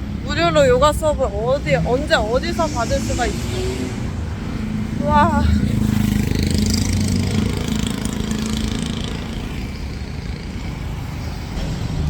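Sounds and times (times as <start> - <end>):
vehicle engine running: 0.0 - 11.3
low traffic rumble: 0.0 - 12.0.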